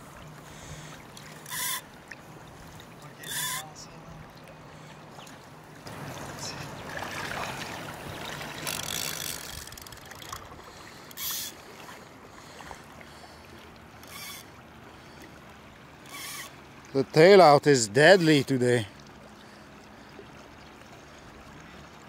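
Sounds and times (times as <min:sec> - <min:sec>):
river water flowing: 0:00.0 - 0:22.0
rushes of water noise: 0:00.0 - 0:22.0.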